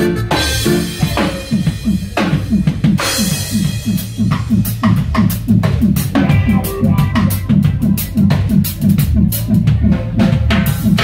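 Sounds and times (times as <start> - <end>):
reggae band playing: 0.0 - 11.0.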